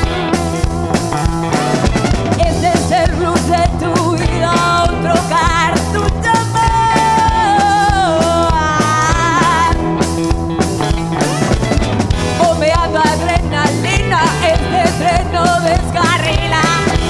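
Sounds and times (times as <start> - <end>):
woman singing lead: 0.0 - 10.1, 11.2 - 17.0
rock band playing: 0.0 - 17.0.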